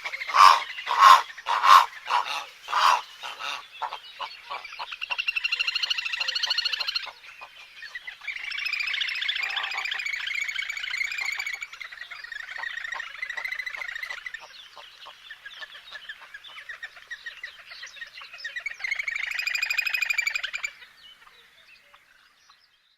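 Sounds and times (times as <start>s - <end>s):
flock of small birds chirping: 0.0s - 22.9s.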